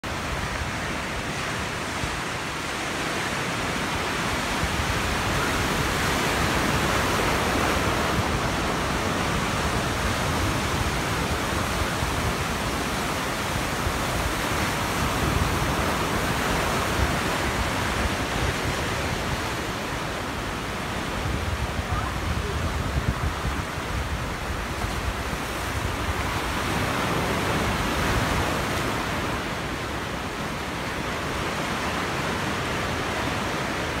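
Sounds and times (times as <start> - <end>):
wind on microphone: 0.0 - 34.0
ocean surf washing over rocks: 0.1 - 34.0.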